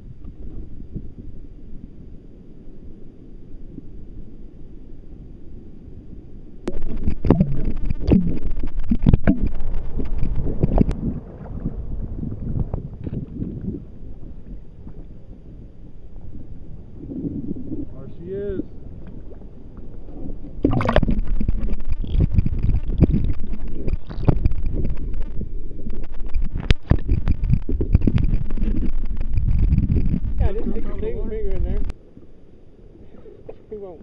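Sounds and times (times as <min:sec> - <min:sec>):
wind on microphone: 0:00.0 - 0:02.1, 0:06.6 - 0:32.0
muffled underwater sloshing: 0:00.0 - 0:34.0
water lapping against kayak hull: 0:06.5 - 0:34.0.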